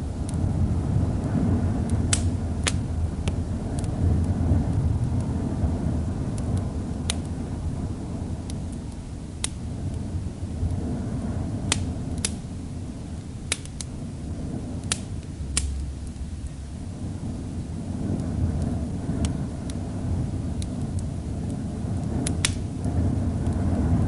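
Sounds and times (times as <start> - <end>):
storm wind rumbling: 0.0 - 24.0
wood fire crackling: 0.0 - 24.0.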